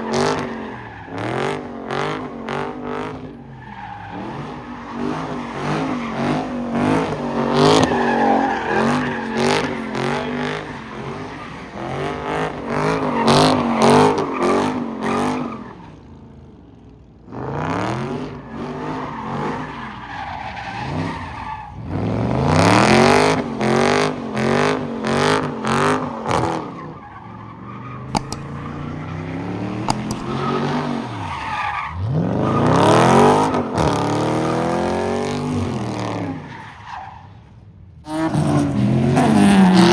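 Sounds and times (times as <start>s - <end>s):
tires skidding and squealing: 0.0s - 16.5s, 17.3s - 39.9s.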